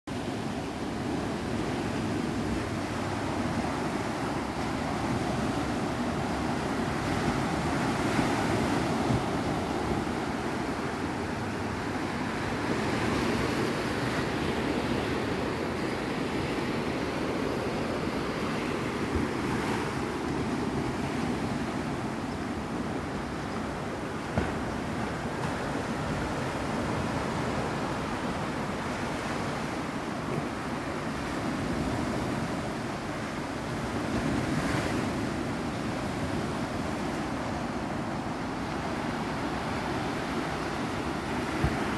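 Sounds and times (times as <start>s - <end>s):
wind: 0.0s - 41.9s
waves washing in: 0.1s - 41.9s.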